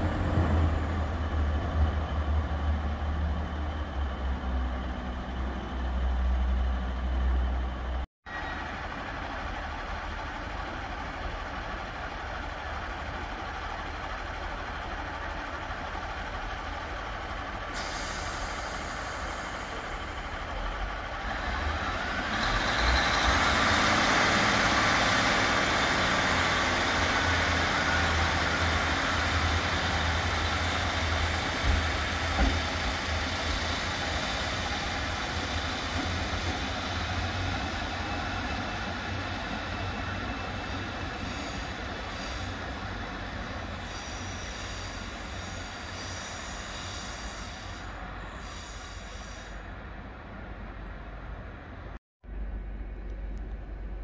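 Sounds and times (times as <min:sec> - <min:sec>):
diesel train engines running: 0:00.0 - 0:54.0.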